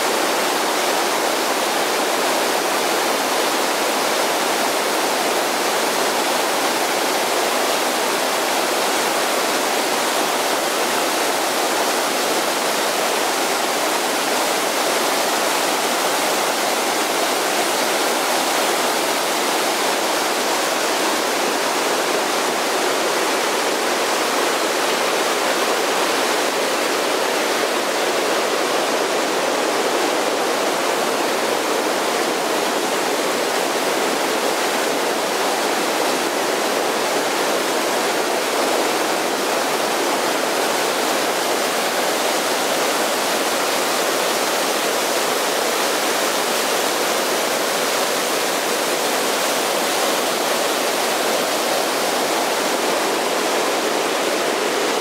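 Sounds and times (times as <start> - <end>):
creek rushing over boulders: 0.0 - 55.0.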